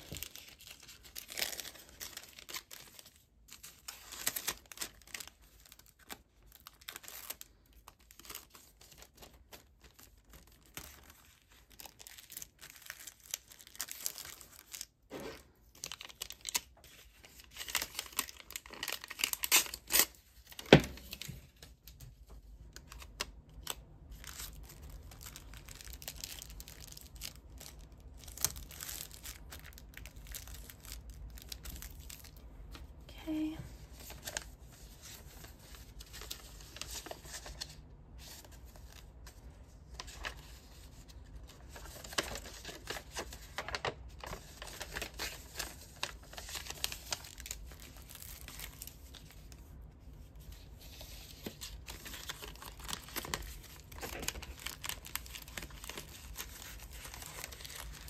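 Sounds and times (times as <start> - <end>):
plastic sleeve crinkling: 0.0 - 58.0.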